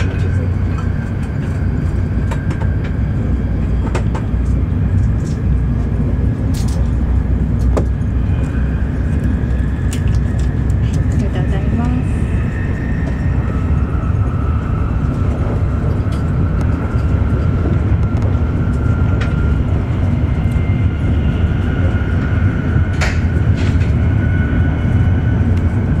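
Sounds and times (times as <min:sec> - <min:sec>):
train cabin low rumble: 0:00.0 - 0:26.0.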